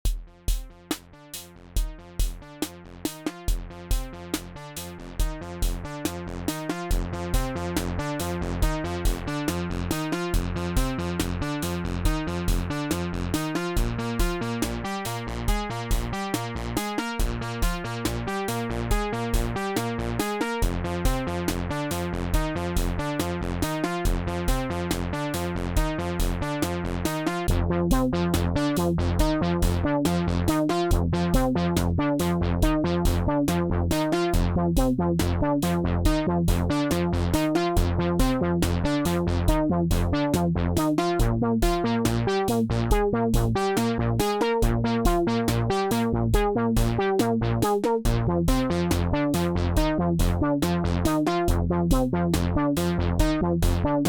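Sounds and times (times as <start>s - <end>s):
electronic kick drum beat: 0.0s - 54.0s
synth bass line: 0.2s - 54.0s.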